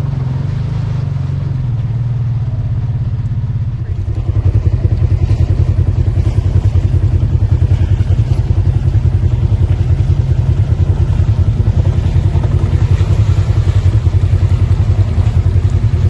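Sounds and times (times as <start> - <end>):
utility vehicle engine running: 0.0 - 16.0.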